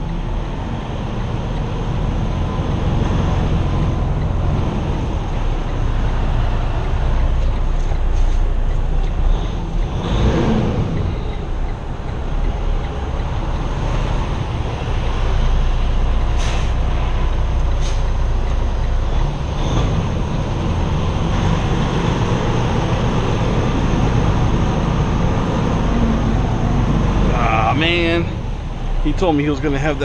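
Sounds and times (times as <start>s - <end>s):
diesel engine running low: 0.0s - 30.0s.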